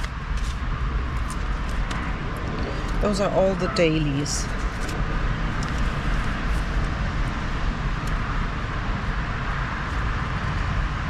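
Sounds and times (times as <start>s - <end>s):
motorway traffic rushing: 0.0s - 11.0s.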